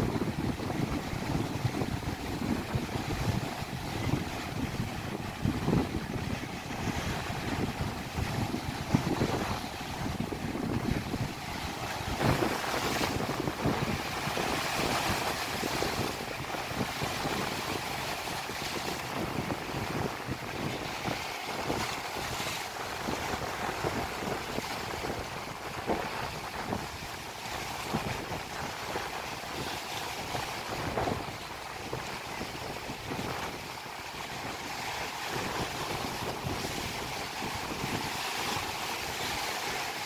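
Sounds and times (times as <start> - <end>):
waves rushing on a lake: 0.0 - 40.0
wind buffeting microphone: 0.0 - 40.0.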